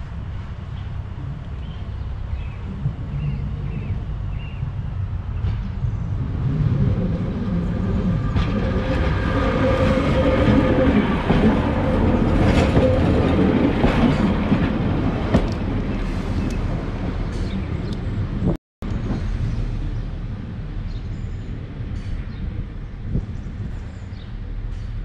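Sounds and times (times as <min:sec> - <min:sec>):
diesel railbus engine rumble: 0:00.0 - 0:25.0.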